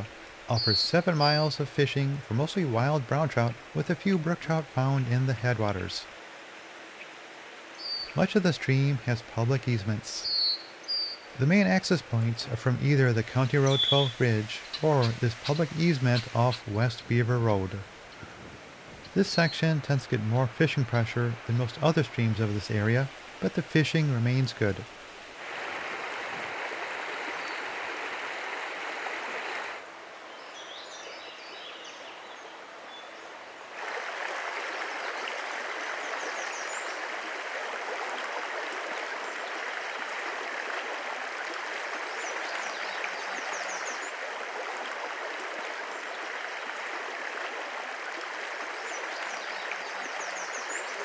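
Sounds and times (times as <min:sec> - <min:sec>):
stream rushing over rocks: 0:00.0 - 0:30.3, 0:32.0 - 0:51.0.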